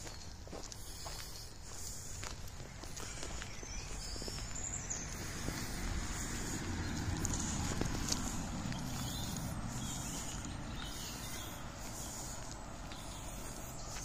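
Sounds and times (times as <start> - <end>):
footsteps on bark-chip path: 0.0 - 14.0
steady low rumble: 1.6 - 14.0.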